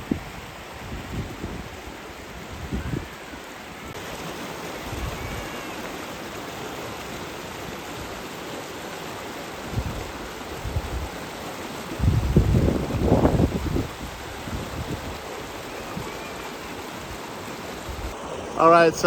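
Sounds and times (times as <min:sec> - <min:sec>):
waterfall rushing: 0:00.1 - 0:19.0.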